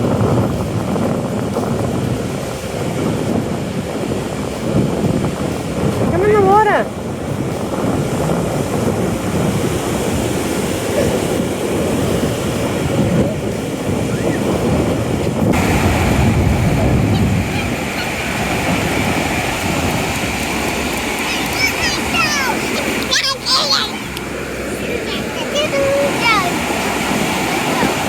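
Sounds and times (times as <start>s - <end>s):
surf breaking: 0.0s - 28.0s
wind buffeting microphone: 0.0s - 28.0s.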